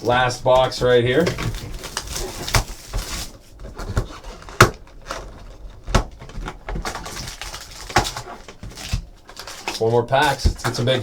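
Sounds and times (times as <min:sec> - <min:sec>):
cardboard rustling: 0:00.0 - 0:11.0.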